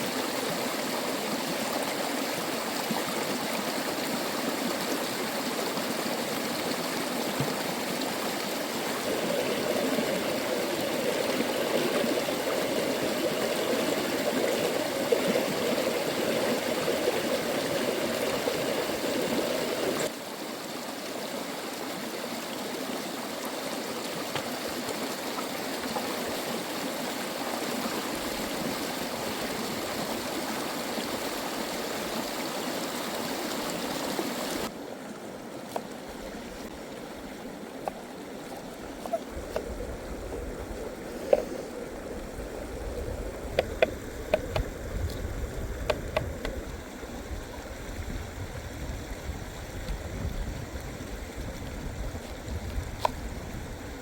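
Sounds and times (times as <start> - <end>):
stream rushing water: 0.0 - 54.0.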